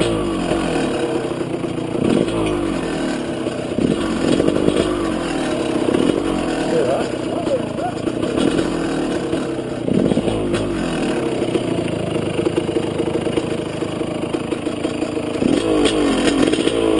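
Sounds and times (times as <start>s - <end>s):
dirt bike engine idling and revving: 0.0s - 16.9s.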